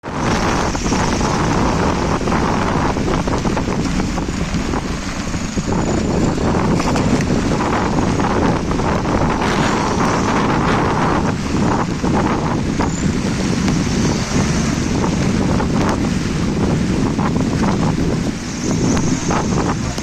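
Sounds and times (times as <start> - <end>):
off-road vehicle running: 0.0 - 20.0
wind buffeting microphone: 0.0 - 20.0.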